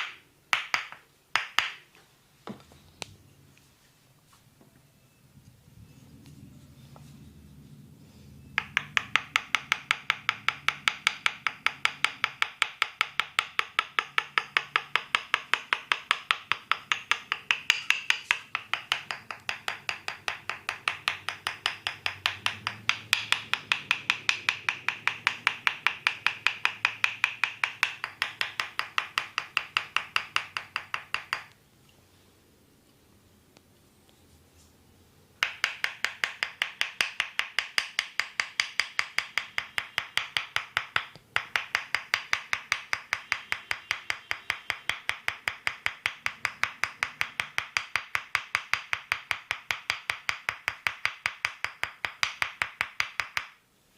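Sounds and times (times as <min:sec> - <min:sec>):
percussive massage taps: 0:00.0 - 0:03.2, 0:08.5 - 0:31.6, 0:35.4 - 0:53.6.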